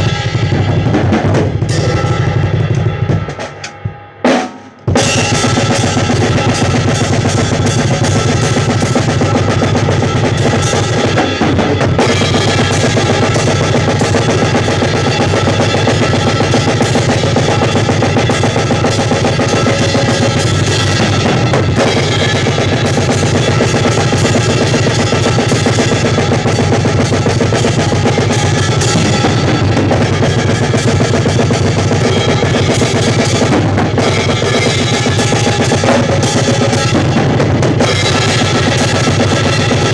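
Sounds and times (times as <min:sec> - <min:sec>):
drum kit played loudly: 0:00.0 - 0:39.9.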